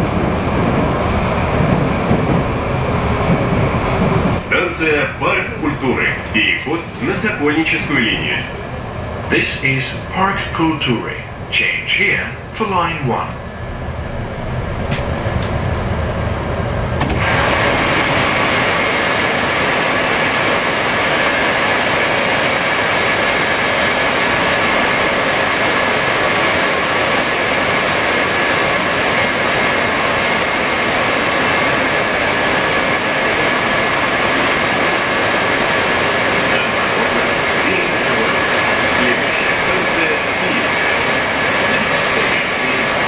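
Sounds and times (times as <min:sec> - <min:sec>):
train low running rumble: 0:00.0 - 0:43.0.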